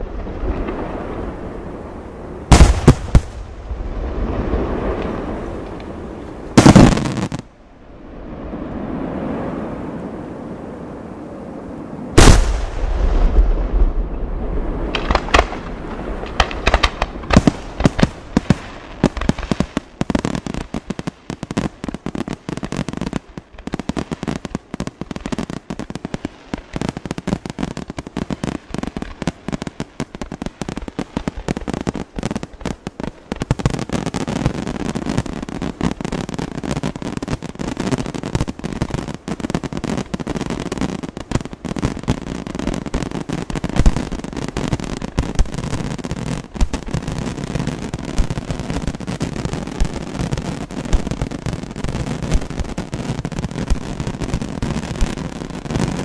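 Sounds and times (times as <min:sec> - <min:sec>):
heavy fireworks bangs: 0:00.0 - 0:07.6, 0:12.2 - 0:56.0
fireworks bursting and crackling: 0:00.0 - 0:10.2, 0:11.9 - 0:56.0.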